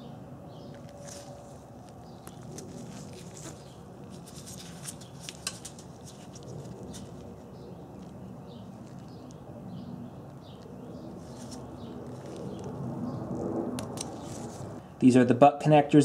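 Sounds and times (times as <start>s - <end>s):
low background noise: 0.0s - 16.0s
wires rustling: 0.7s - 9.5s, 10.2s - 14.8s.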